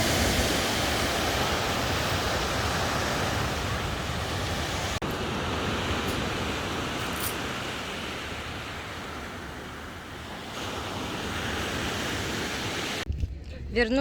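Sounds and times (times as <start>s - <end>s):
sea surf washing ashore: 0.0s - 13.1s.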